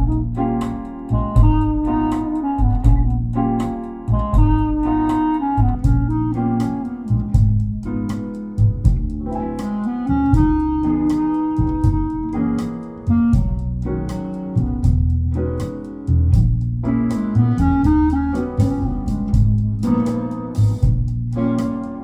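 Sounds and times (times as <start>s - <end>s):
instrumental keyboard music: 0.0s - 22.0s.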